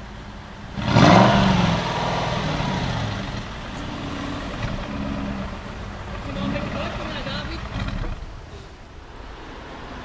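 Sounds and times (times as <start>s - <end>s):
car engine idling and revving: 0.0s - 10.0s.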